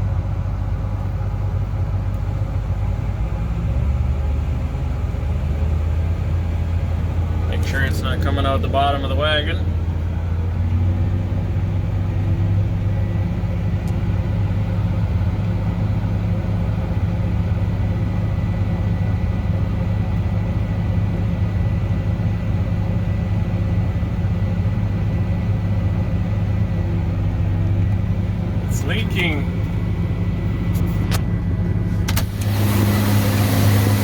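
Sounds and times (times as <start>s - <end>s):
harvester engine running: 0.0s - 34.0s.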